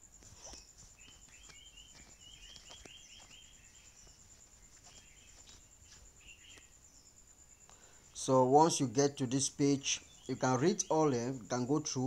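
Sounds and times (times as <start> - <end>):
high insect trill: 0.0 - 12.0.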